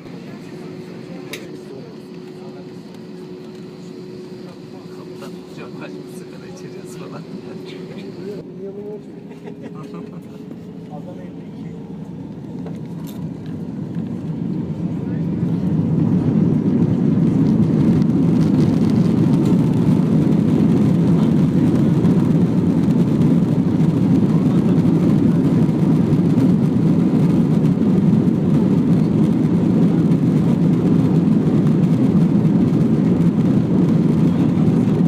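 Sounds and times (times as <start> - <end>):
airplane cabin engine rumble: 0.0 - 35.0.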